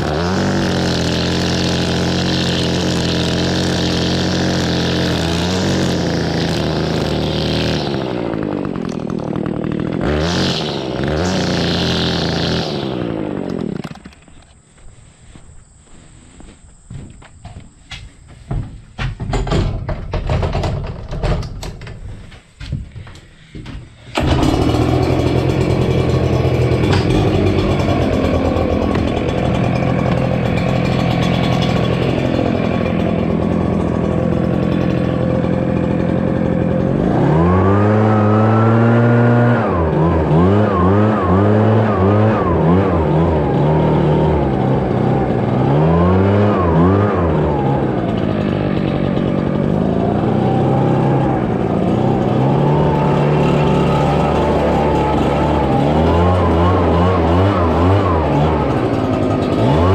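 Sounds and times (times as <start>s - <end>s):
leaf blower engine revving: 0.0s - 16.5s, 23.3s - 59.9s.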